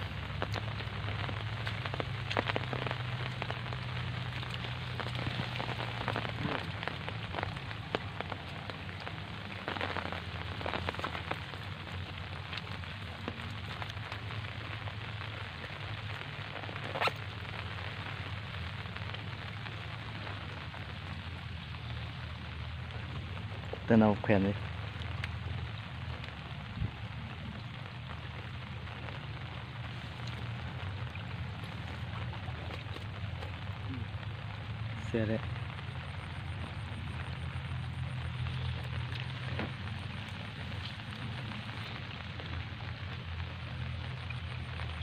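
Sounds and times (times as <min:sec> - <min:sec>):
low steady rumble: 0:00.0 - 0:45.0
rain pattering on lake: 0:00.0 - 0:45.0.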